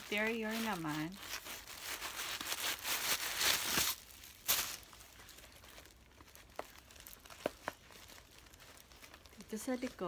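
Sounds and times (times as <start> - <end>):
nylon bag handled: 0.0 - 10.0
tissue paper crinkling: 0.0 - 10.0.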